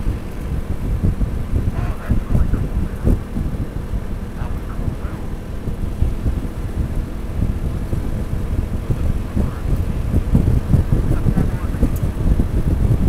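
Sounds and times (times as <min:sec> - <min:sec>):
scooter engine droning: 0:00.0 - 0:13.0
wind buffeting microphone: 0:00.0 - 0:13.0.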